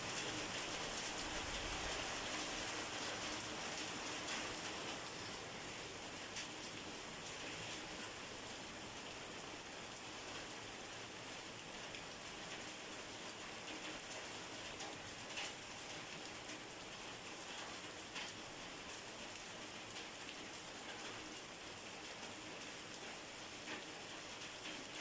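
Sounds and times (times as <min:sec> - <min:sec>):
rain falling on a surface: 0:00.0 - 0:25.0.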